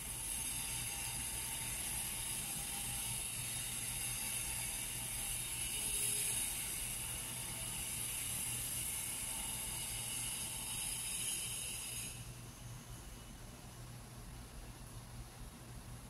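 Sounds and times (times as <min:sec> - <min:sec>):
hiss: 0:00.0 - 0:13.0
mechanical whir: 0:00.0 - 0:13.5.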